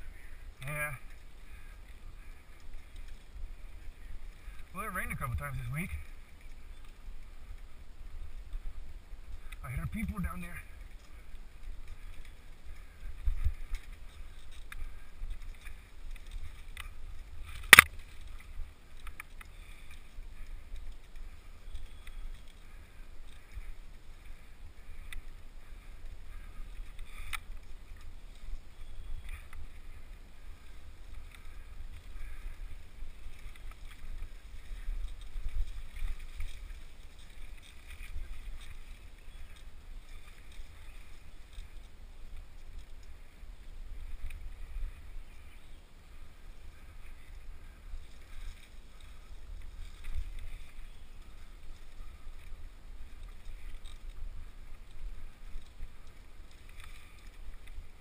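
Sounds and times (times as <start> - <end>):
wind on helmet: 0.0 - 58.0.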